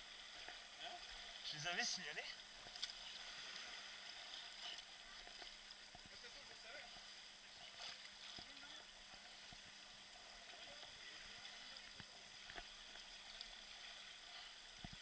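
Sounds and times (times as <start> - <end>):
faint moving water: 0.0 - 15.0.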